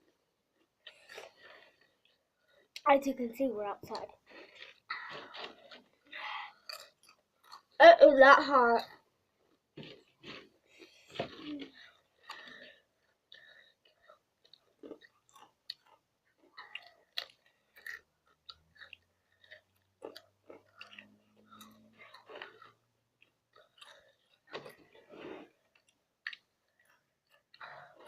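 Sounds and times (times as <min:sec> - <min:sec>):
person chewing crunchy chips: 0:00.5 - 0:02.8, 0:04.0 - 0:07.8, 0:08.8 - 0:28.0.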